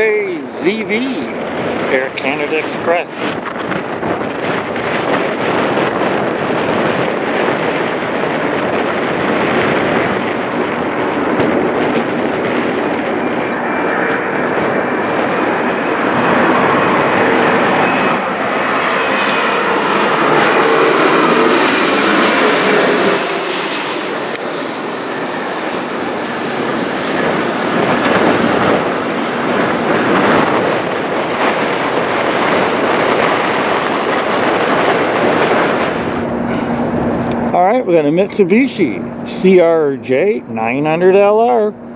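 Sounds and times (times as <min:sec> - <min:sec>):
jet passing low overhead: 0:00.0 - 0:41.9.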